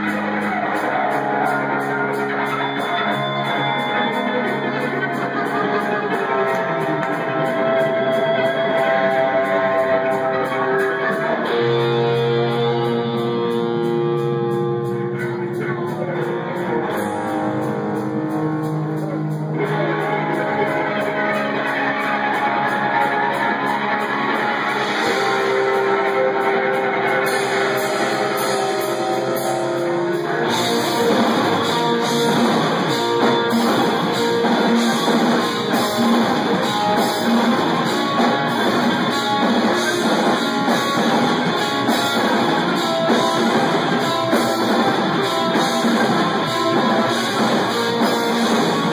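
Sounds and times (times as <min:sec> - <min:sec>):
electric guitars sustained notes: 0:00.0 - 0:48.9
live rock band playing: 0:00.0 - 0:48.9.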